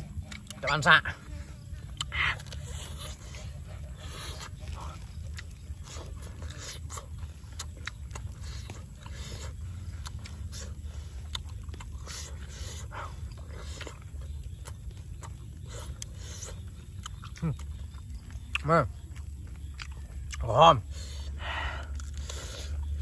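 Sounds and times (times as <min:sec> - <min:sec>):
person chewing with wet smacks: 0:00.0 - 0:01.0, 0:01.6 - 0:23.0
steady low hum: 0:00.0 - 0:23.0.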